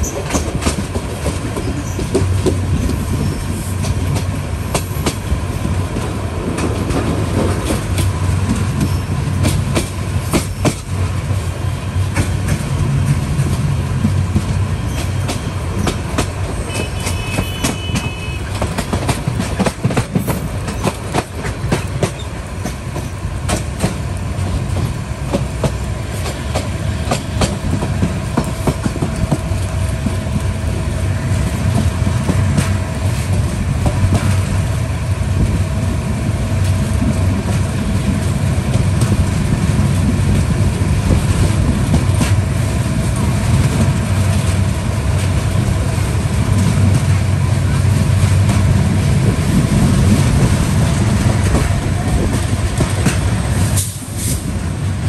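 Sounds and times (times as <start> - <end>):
wheels clicking over rail joints: 0.0 - 34.8, 35.4 - 55.0
train wheels rumbling on rails: 0.0 - 55.0.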